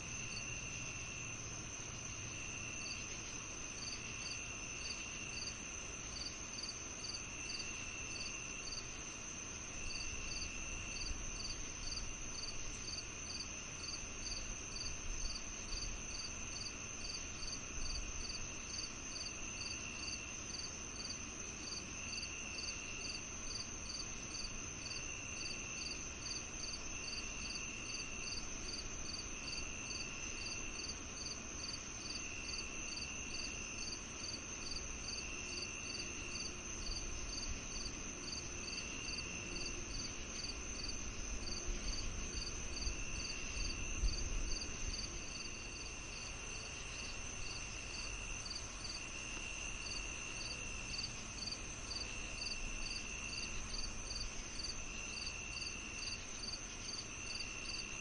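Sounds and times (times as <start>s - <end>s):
lower insect trill: 0.0s - 58.0s.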